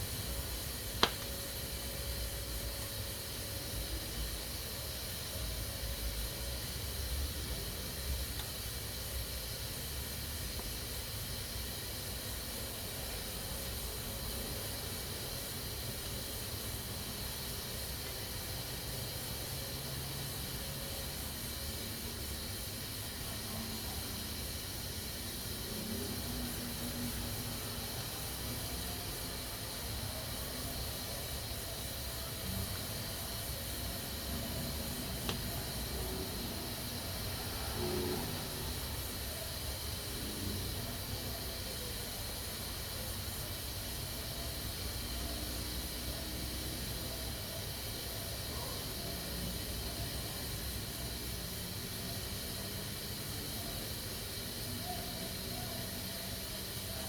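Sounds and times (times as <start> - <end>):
pressure cooker hissing: 0.0 - 57.0.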